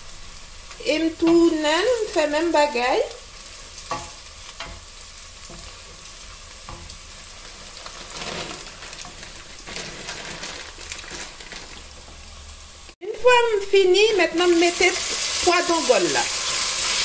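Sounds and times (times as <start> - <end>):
spices frying in oil: 0.0 - 17.0.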